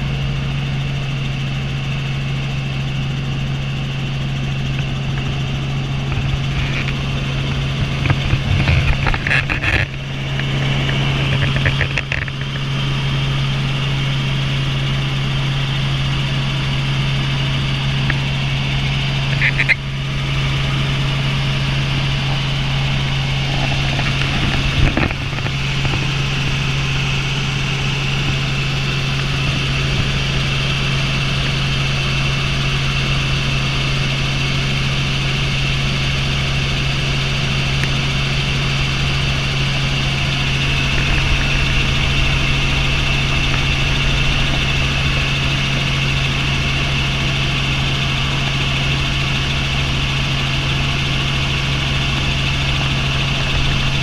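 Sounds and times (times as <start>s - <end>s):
helicopter rotor and engine drone: 0.0s - 54.0s
high-pitched whine: 0.0s - 54.0s.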